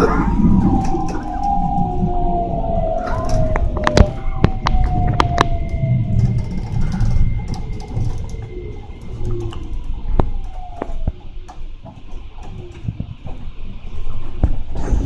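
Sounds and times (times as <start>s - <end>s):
train rumble inside carriage: 0.0s - 15.0s
wheels clicking on rails: 0.0s - 15.0s.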